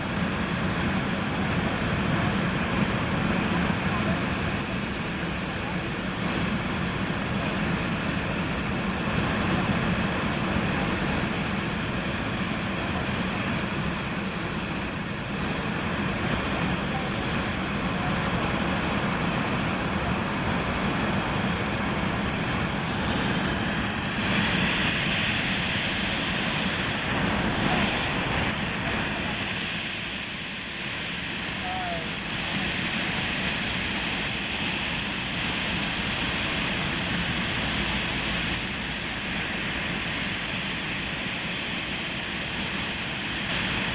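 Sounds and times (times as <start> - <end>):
jet engines at high power: 0.0 - 43.9.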